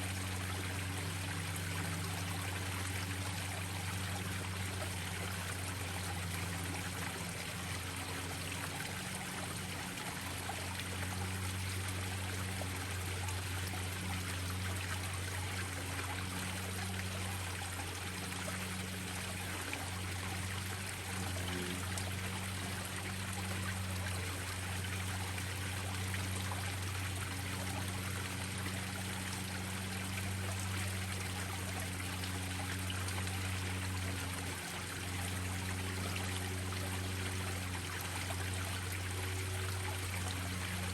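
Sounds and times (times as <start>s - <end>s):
small waterfalls splashing into pond: 0.0s - 40.9s
steady low hum: 0.0s - 40.9s.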